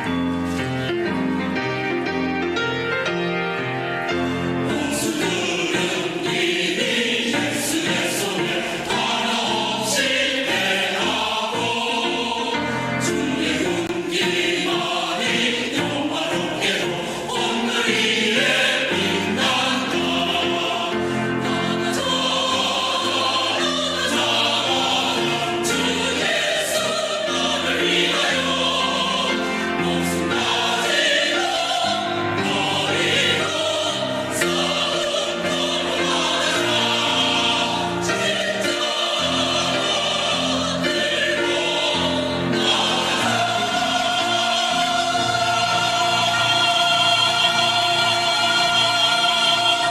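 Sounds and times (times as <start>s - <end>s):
church choir singing a hymn: 0.0s - 49.9s.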